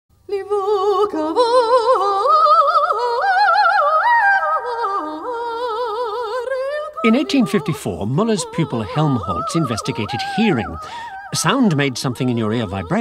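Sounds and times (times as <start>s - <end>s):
woman singing with vibrato: 0.2s - 13.0s.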